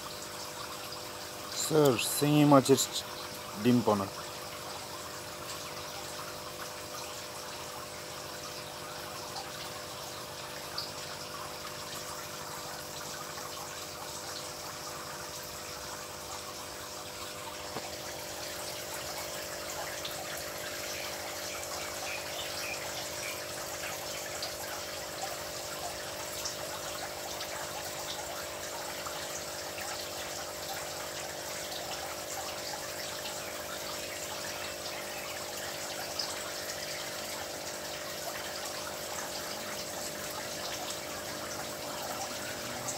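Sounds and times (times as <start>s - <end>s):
water trickling in fish tank: 0.0s - 42.9s
drip-like ticks: 0.2s - 42.9s.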